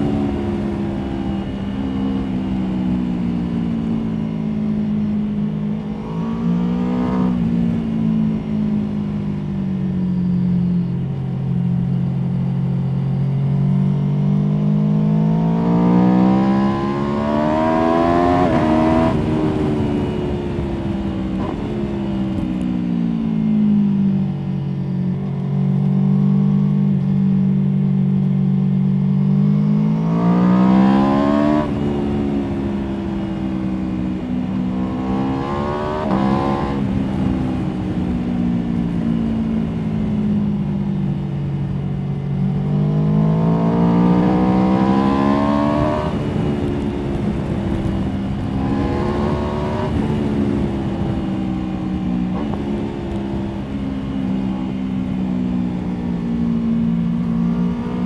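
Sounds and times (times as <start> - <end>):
motorcycle engine revving: 0.0 - 9.2, 12.6 - 58.0.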